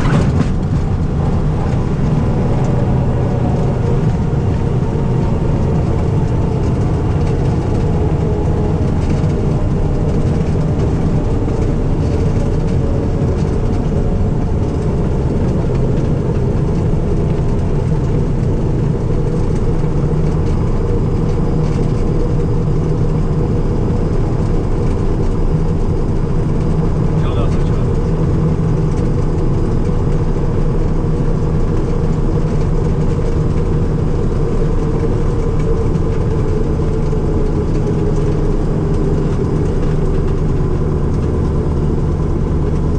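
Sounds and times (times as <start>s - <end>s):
aircraft engine and propeller running: 0.0s - 42.9s.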